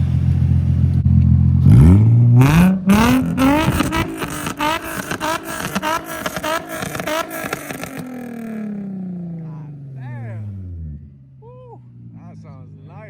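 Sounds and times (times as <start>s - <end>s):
car engine revving and accelerating: 0.0s - 13.0s
engine crackles: 0.0s - 13.0s.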